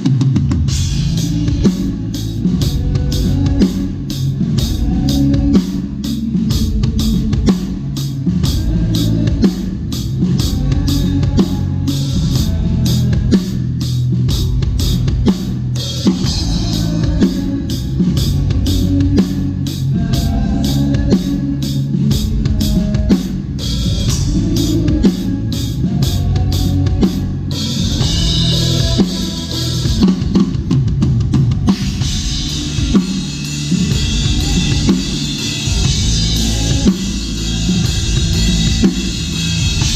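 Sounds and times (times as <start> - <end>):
drum kit rock beat: 0.0 - 39.9.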